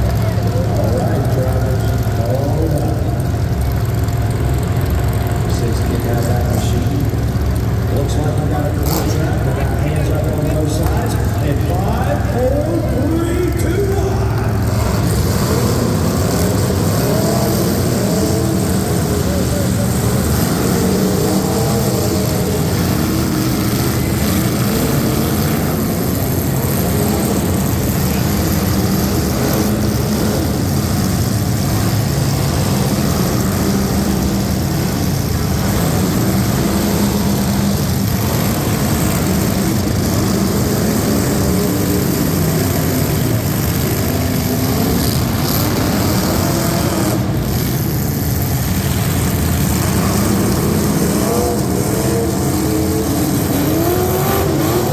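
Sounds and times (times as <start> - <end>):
truck engines roaring: 0.0 - 54.9.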